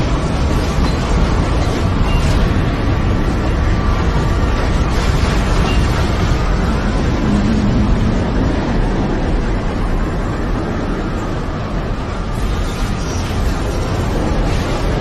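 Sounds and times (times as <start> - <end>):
strong wind blowing: 0.0 - 15.0
wind buffeting microphone: 0.0 - 15.0.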